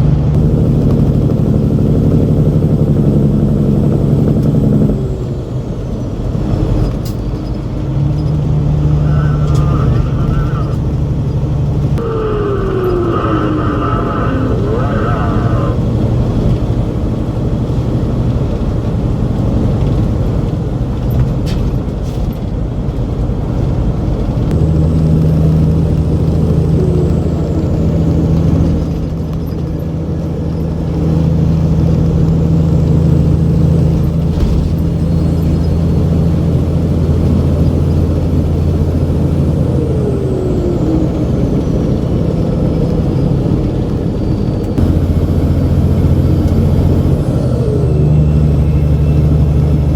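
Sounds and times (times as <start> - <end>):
truck diesel engine running: 0.0 - 49.9.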